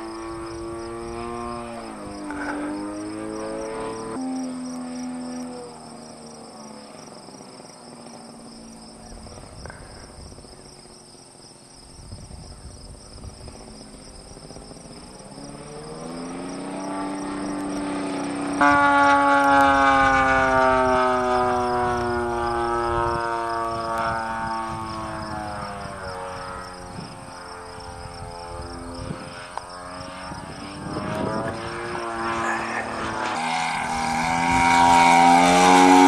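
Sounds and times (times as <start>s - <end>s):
model plane engine buzzing: 0.0s - 36.0s.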